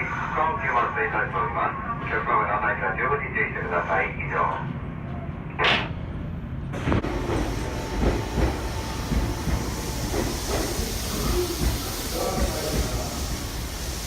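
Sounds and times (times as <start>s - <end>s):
train rumble and hiss: 0.0s - 14.0s.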